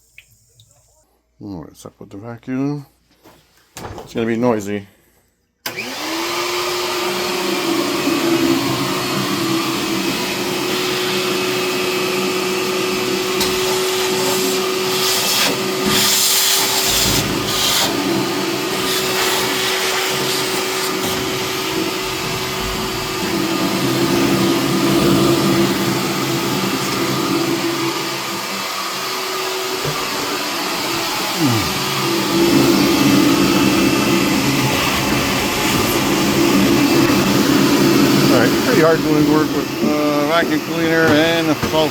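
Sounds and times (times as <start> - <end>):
vacuum cleaner motor whining: 5.6 - 41.9.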